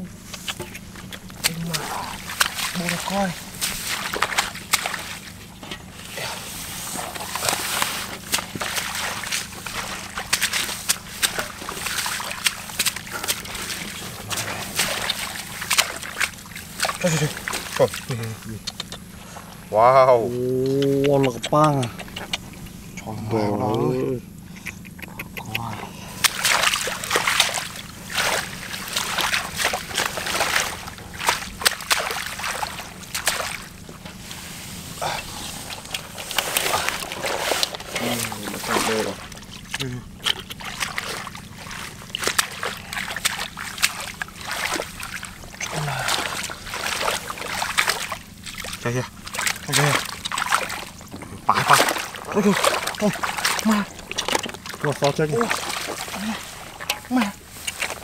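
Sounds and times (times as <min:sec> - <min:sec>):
rustling in grassy water: 0:00.0 - 0:25.0, 0:25.6 - 0:58.0
water sloshing and splashing: 0:00.0 - 0:58.0.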